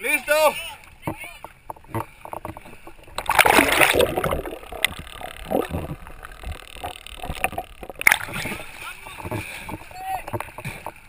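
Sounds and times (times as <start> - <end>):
muffled underwater sloshing: 0.8 - 11.0
water splashing and gurgling: 1.0 - 11.0
rush of bubbling: 1.9 - 10.8.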